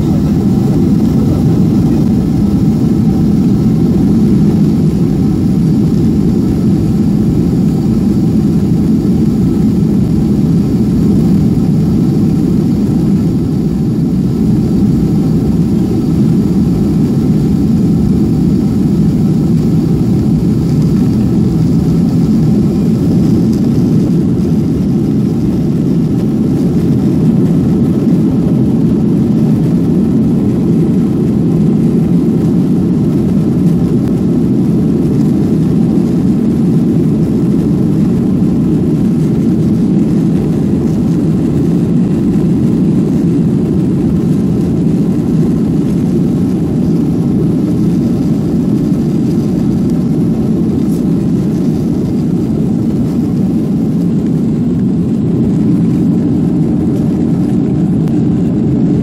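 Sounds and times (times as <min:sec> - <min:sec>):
faint engine whine: 0:00.0 - 0:59.0
jet engines low rumble: 0:00.0 - 0:59.0.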